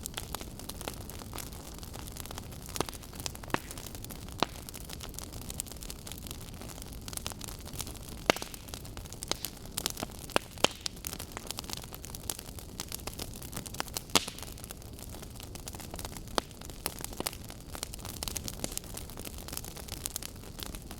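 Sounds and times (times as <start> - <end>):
fire crackles: 0.0 - 20.9
logs burning with low rush: 0.0 - 20.9.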